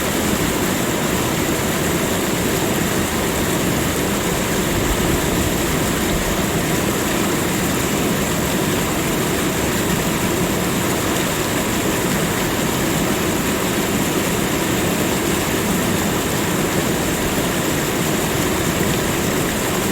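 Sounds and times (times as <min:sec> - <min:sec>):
flowing water rushing: 0:00.0 - 0:19.9.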